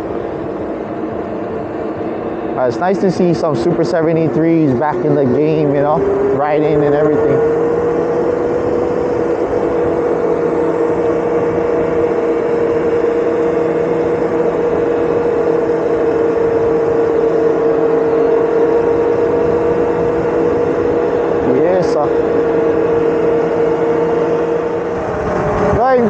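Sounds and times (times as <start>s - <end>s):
electric bike motor whining: 0.0s - 26.0s
wind and road noise: 0.0s - 26.0s.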